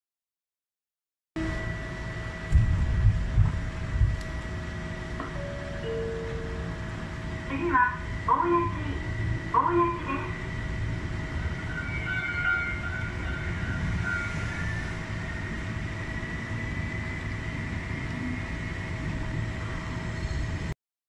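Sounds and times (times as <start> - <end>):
train wheels rumbling on rails: 1.4 - 20.7.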